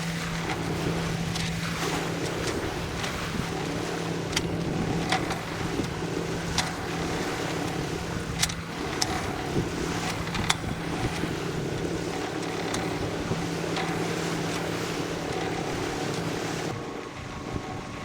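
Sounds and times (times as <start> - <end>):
steady low hum: 0.0 - 18.0
water and wind noise: 0.0 - 18.0.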